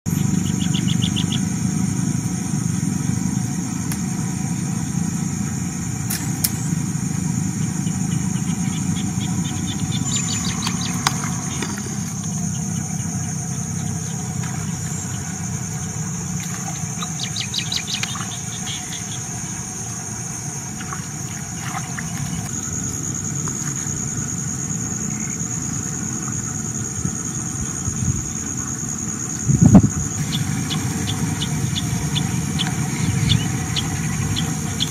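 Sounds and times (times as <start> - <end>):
high-pitched whine: 0.1 - 34.9.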